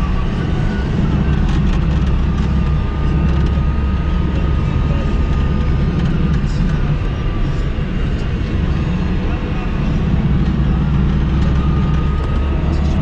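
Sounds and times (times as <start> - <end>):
car engine and tyre rumble: 0.0 - 13.0
faint steady whine: 0.0 - 13.0.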